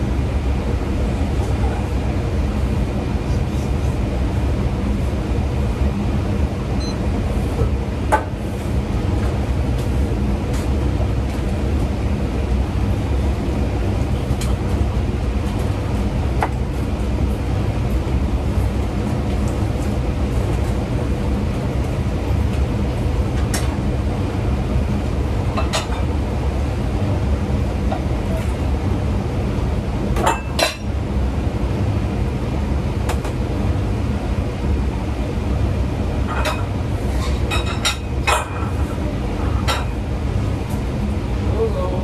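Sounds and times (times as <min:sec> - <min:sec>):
low kitchen rumble: 0:00.0 - 0:42.0.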